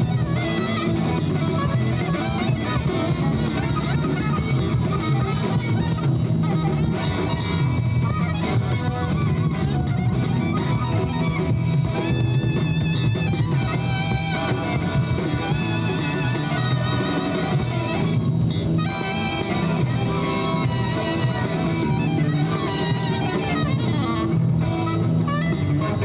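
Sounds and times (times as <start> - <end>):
instrumental music with vibrato melody: 0.0 - 26.0.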